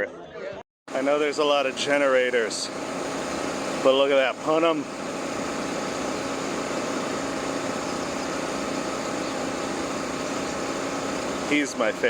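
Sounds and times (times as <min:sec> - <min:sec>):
generator engine hum: 0:00.9 - 0:12.0.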